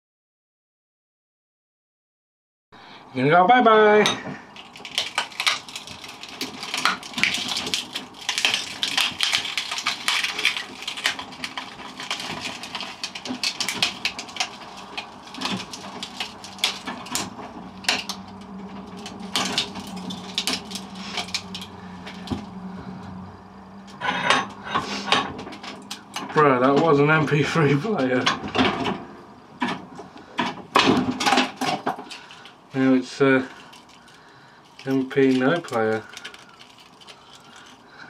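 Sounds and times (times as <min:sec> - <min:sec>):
plastic and glass cracking: 0:04.4 - 0:22.6, 0:25.0 - 0:38.0.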